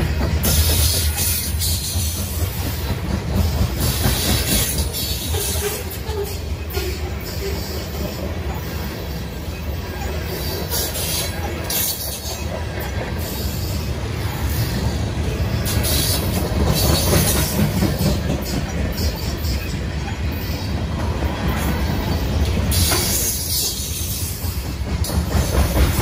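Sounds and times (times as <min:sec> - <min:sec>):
high-pitched rail noise: 0:00.0 - 0:26.0
train wheels rumbling on rails: 0:00.0 - 0:26.0.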